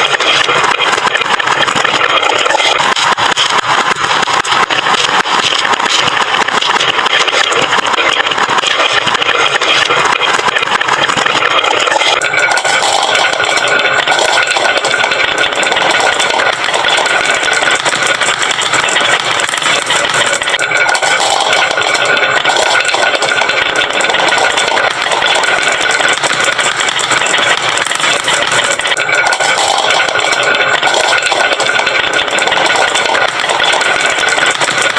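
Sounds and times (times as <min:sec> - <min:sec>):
marbles rattling down wooden run: 0:00.0 - 0:34.9.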